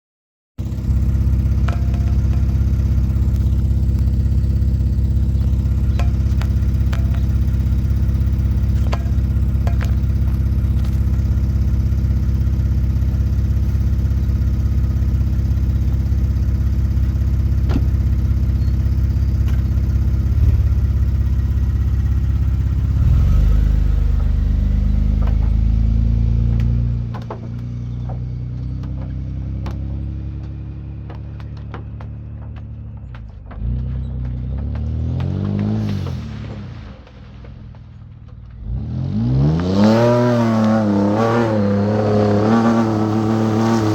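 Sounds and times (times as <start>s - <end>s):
clanks from shredded tire: 0.6s - 43.9s
vehicle engine droning: 0.6s - 43.9s.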